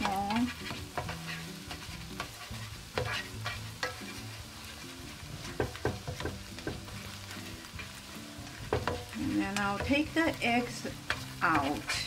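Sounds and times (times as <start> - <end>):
eggs sizzling: 0.0 - 12.0
spatula scraping a pan: 0.0 - 12.0.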